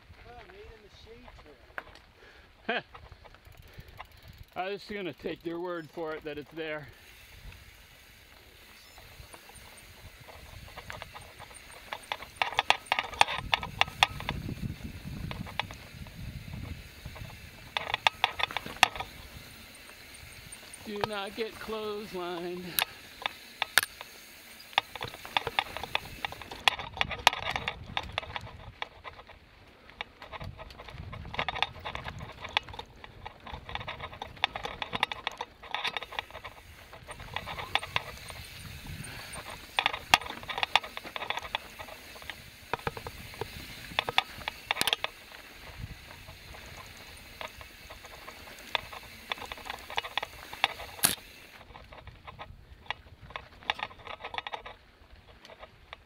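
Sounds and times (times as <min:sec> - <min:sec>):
mountain bike clattering: 0:00.0 - 0:56.0.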